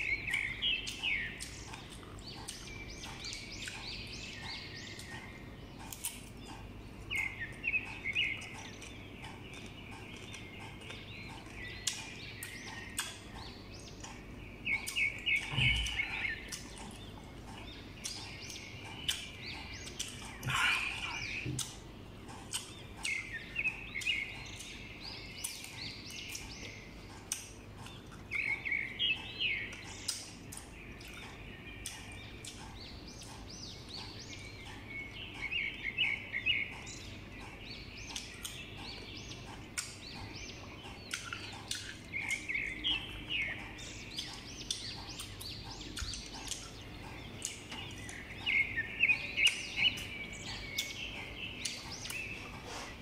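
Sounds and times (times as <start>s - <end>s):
birds chirping in trills: 0.0s - 53.0s
person chewing crunchy fruit: 0.0s - 53.0s.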